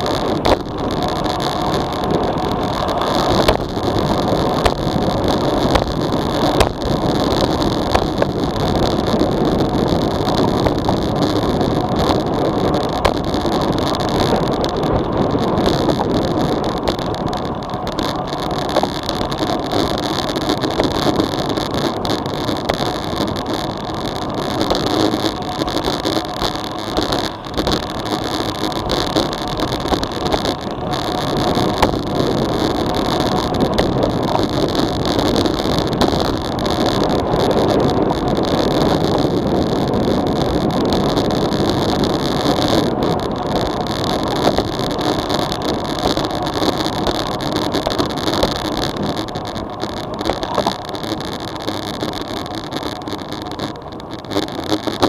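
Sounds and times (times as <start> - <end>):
bike tyre and road noise: 0.0 - 55.0
wind rushing over microphone: 0.0 - 55.0.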